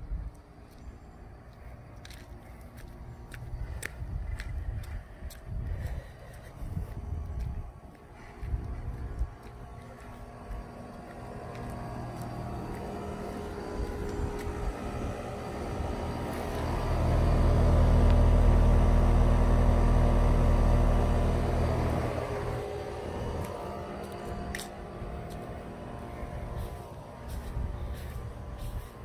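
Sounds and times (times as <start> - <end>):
air conditioner unit humming: 0.0 - 29.0.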